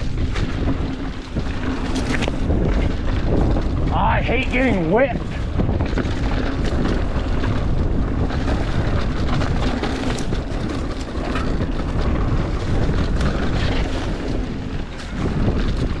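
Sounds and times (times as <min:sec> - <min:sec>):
bike rattling and knocking: 0:00.0 - 0:16.0
wind noise on microphone: 0:00.0 - 0:16.0.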